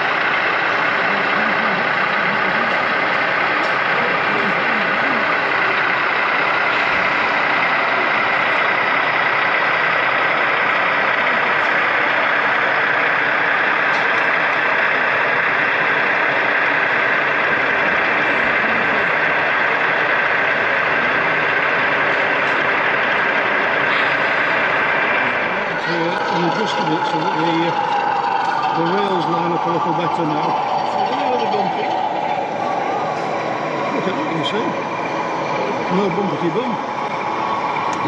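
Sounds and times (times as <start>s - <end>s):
exhibition hall background noise: 0.0s - 38.0s
model diesel locomotive idling: 0.0s - 38.0s.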